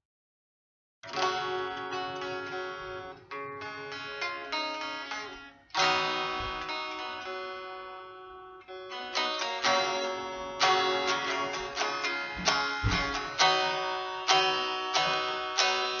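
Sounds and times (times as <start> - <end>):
electric guitar strumming chords: 1.0 - 16.0.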